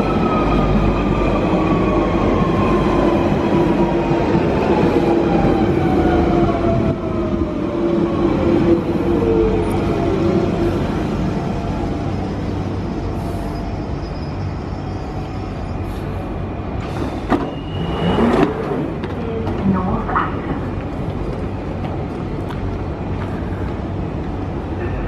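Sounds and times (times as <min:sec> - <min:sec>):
train running gear rumble: 0:00.0 - 0:25.0.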